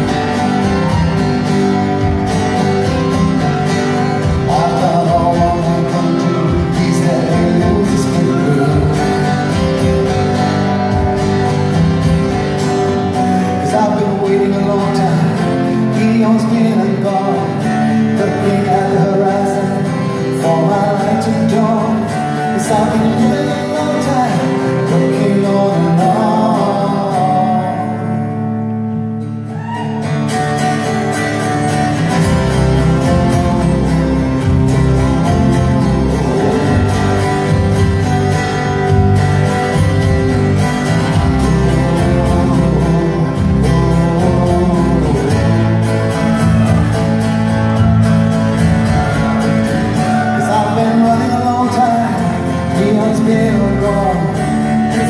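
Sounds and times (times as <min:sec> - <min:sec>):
man singing: 0:00.0 - 0:28.6, 0:31.5 - 0:55.0
bass: 0:00.0 - 0:55.0
strummed acoustic guitar: 0:00.0 - 0:55.0.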